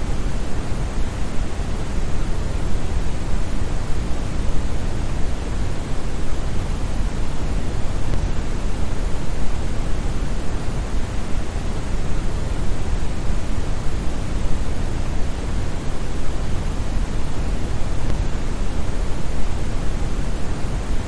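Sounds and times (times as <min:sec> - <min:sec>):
brown noise: 0:00.0 - 0:21.0.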